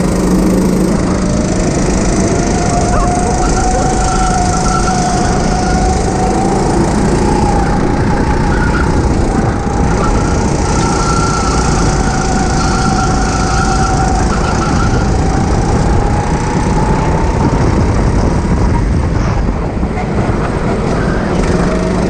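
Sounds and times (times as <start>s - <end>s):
go-kart engine running: 0.0s - 22.0s
heavy low rumble: 0.0s - 22.0s.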